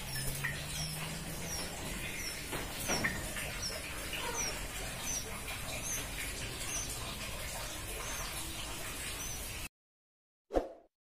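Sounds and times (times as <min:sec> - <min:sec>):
caged birds chirping: 0:00.0 - 0:09.7.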